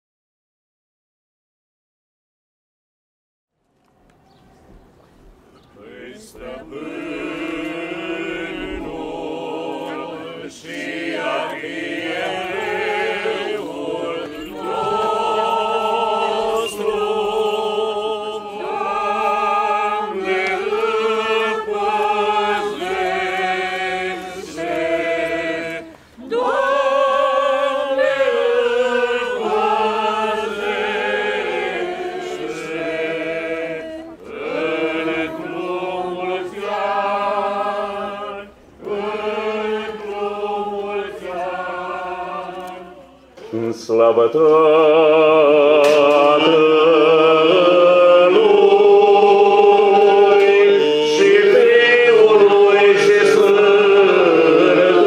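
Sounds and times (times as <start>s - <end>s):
choir chanting a hymn: 5.7s - 55.0s.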